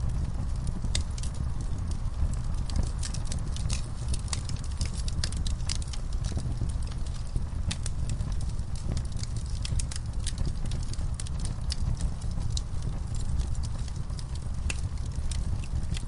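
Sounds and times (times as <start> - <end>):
fire popping and snapping: 0.0 - 16.0
low sound of burning: 0.0 - 16.0.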